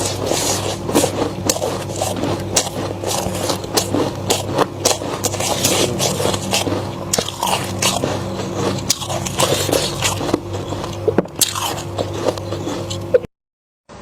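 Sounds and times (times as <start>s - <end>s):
chewing crunchy frost: 0.0s - 13.3s.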